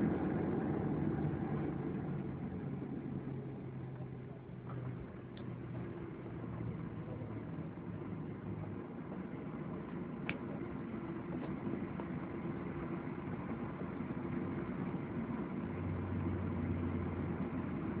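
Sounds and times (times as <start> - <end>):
airplane cabin engine and rolling noise: 0.0 - 18.0
low hum: 0.0 - 18.0.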